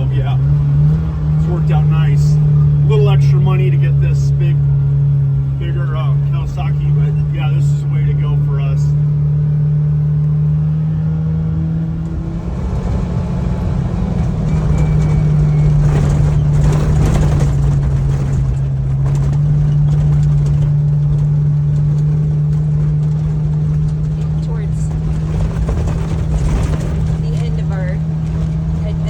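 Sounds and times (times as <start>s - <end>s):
tyre and trail noise: 0.0s - 29.0s
vehicle engine running steadily: 0.0s - 29.0s.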